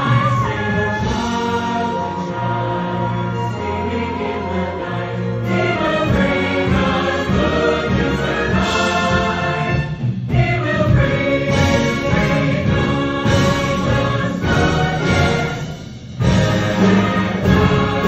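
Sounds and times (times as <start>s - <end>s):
choir singing: 0.0s - 18.0s
orchestra with violins: 0.0s - 18.0s.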